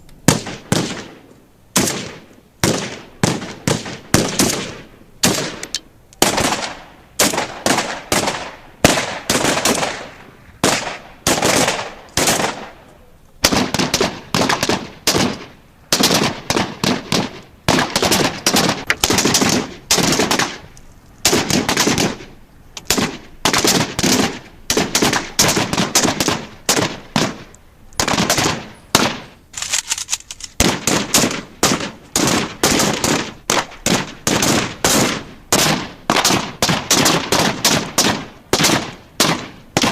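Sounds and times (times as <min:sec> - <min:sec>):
automatic gunfire bursts: 0:01.8 - 0:12.7, 0:13.4 - 0:20.6, 0:21.2 - 0:22.3, 0:22.9 - 0:30.0, 0:30.6 - 0:39.9.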